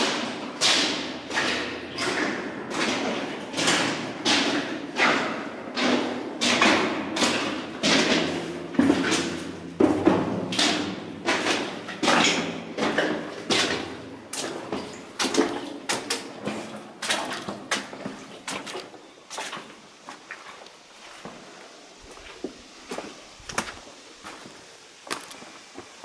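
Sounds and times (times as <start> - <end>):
footsteps on wet gravel: 0.0 - 26.0.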